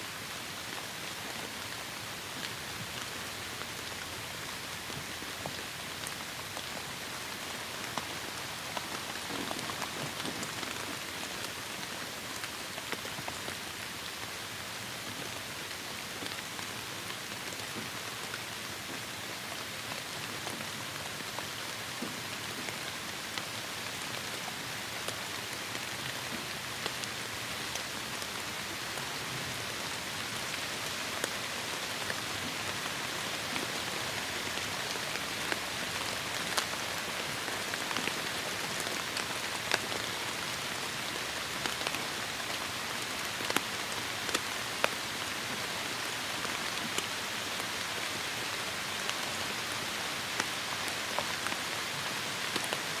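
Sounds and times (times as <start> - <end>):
heavy rain falling: 0.5 - 53.0.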